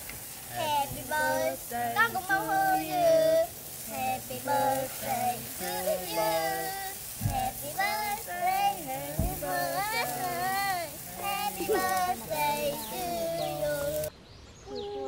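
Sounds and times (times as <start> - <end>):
children and woman singing: 0.4 - 14.1.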